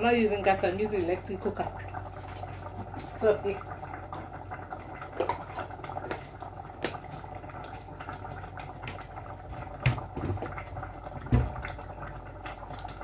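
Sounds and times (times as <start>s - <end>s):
sauce bubbling in a pot: 0.0s - 13.0s.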